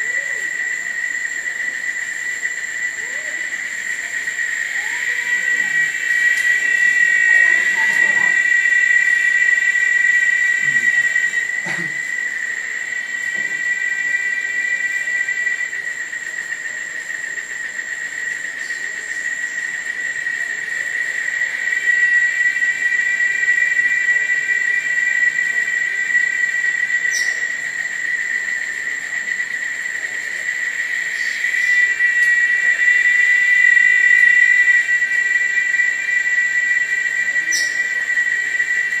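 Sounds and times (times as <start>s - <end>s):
insect chorus: 0.0s - 39.0s.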